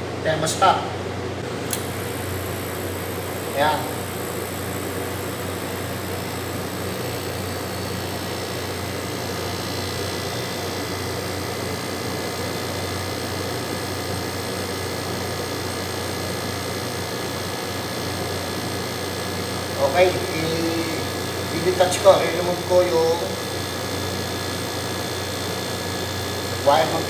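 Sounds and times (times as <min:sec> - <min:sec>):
air conditioner compressor humming: 0:00.0 - 0:27.0.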